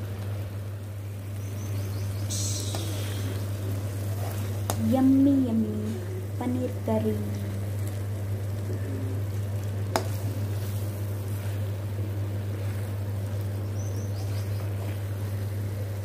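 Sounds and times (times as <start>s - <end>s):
gravy sizzling in a pan: 0.0s - 16.0s
low hum: 0.0s - 16.0s.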